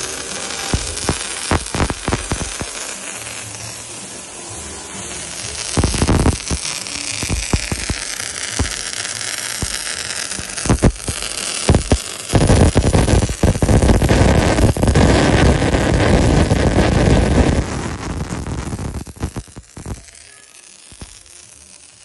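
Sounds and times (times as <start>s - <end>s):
welding arc crackling hiss: 0.0s - 22.0s
sharp pops of spatter: 0.6s - 3.0s, 5.6s - 21.2s.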